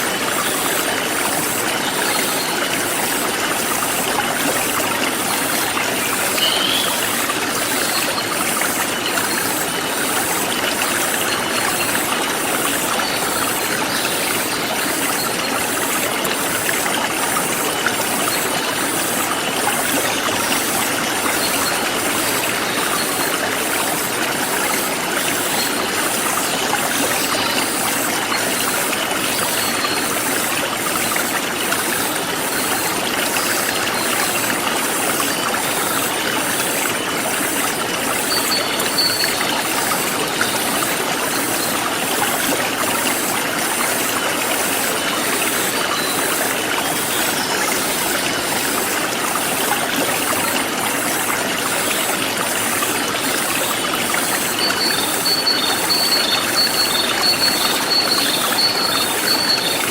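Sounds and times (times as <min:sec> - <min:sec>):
forest stream rushing: 0:00.0 - 0:59.9.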